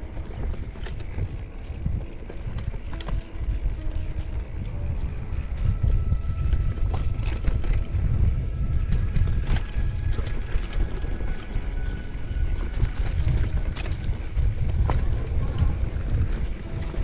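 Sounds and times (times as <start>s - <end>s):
bike clicking and rattling: 0.0s - 17.0s
low rumble: 0.0s - 17.0s
wind rushing on microphone: 0.0s - 17.0s.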